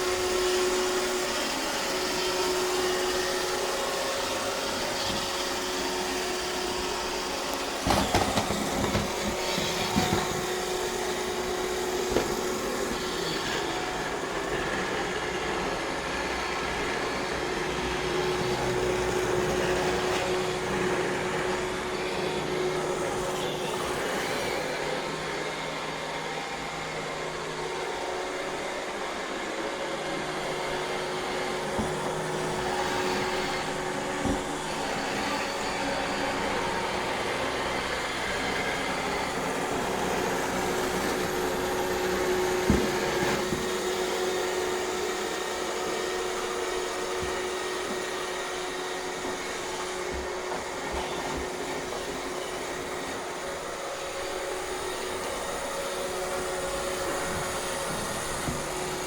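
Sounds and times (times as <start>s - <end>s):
robot vacuum whirring: 0.0s - 59.0s.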